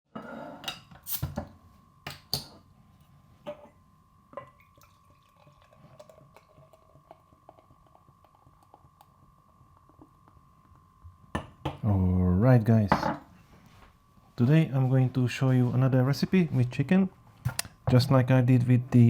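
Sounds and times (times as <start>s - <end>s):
faint high hum: 0.2s - 19.0s.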